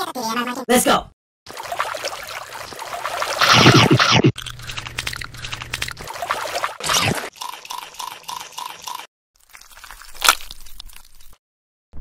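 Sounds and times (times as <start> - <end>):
wet splashing and squelching: 1.5 - 11.4.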